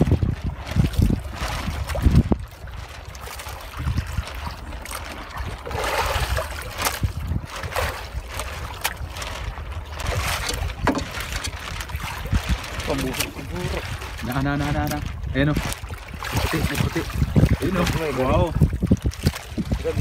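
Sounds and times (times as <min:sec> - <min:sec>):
rustling wash: 0:00.0 - 0:20.0
water lapping against boat hull: 0:00.0 - 0:20.0.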